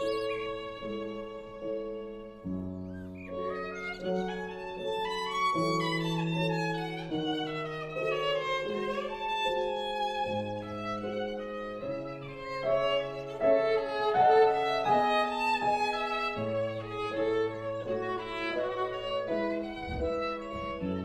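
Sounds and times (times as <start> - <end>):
slow bowed string melody: 0.0 - 21.0.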